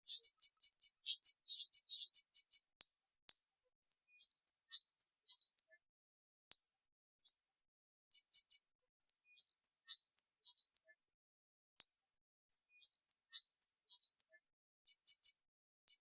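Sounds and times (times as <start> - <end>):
bird chirping: 0.0 - 5.8, 6.5 - 11.0, 11.8 - 16.0.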